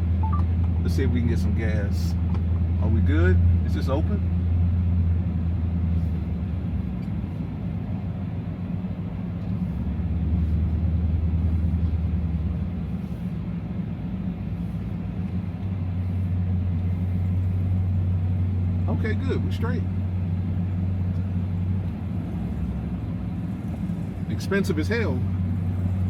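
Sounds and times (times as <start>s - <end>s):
pickup truck engine droning: 0.0s - 26.0s.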